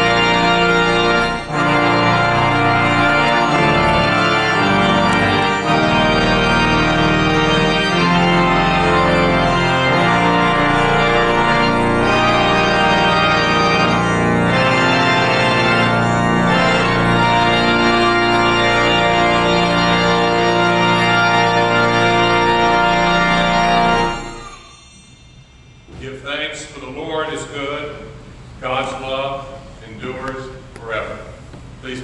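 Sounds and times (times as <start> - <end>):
church organ playing chords: 0.0 - 30.3.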